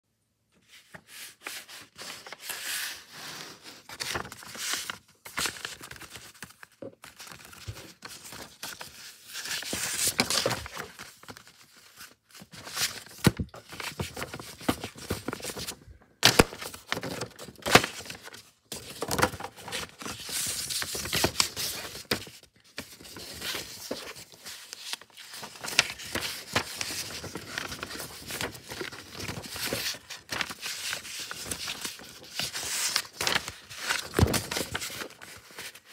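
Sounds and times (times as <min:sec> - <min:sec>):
paper rustling and crinkling: 0:00.6 - 0:35.9.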